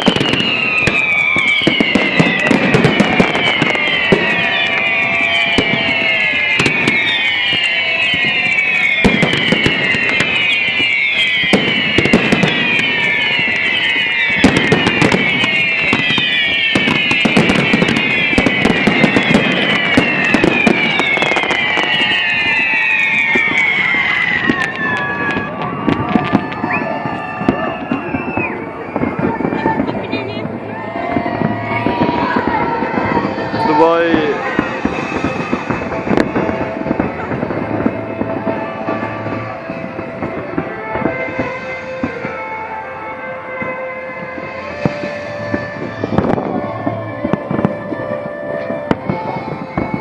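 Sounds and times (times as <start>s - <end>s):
falling firework whistles: 0.0s - 50.0s
fireworks bangs and crackles: 0.0s - 50.0s.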